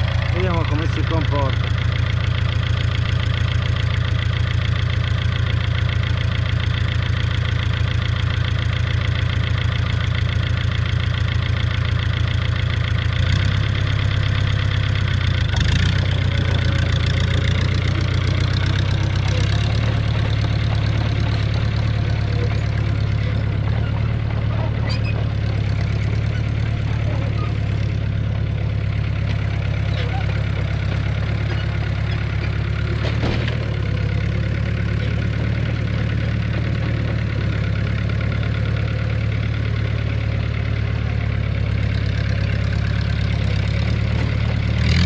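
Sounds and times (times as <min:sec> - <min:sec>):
crawler tractor driving away: 0:00.0 - 0:45.0
diesel tractor engine idling: 0:00.0 - 0:45.0
tractor clunk: 0:00.0 - 0:45.0.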